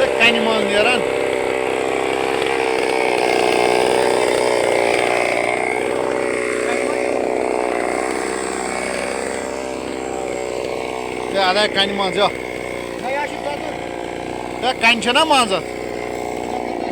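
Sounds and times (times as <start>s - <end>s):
chainsaw engine running: 0.0s - 16.9s.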